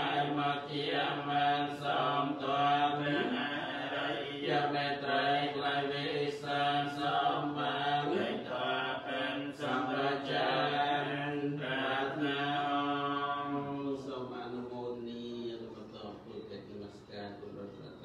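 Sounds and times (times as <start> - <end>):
men chanting: 0.0 - 16.2.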